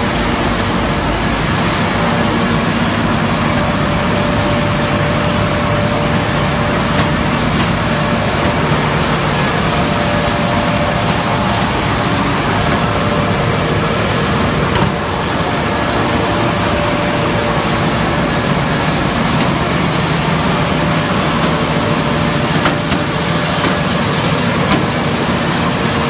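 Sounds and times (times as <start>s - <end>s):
machinery din: 0.0s - 26.0s
water churning: 0.0s - 26.0s.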